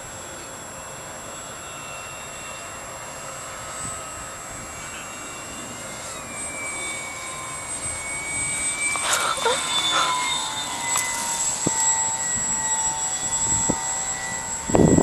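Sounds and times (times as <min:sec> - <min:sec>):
model plane electric motor whine: 0:00.0 - 0:15.0.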